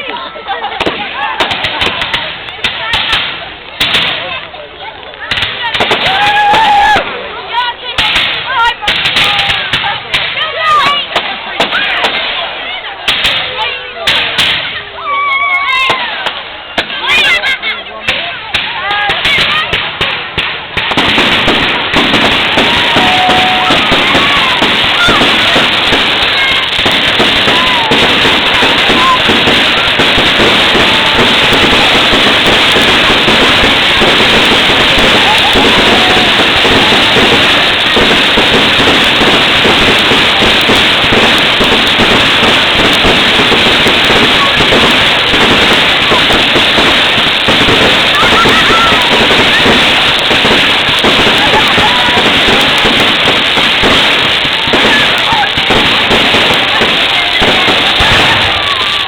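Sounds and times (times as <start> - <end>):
crowd voices calling out: 0.0 - 59.0
fireworks bangs and cracks: 0.0 - 59.0.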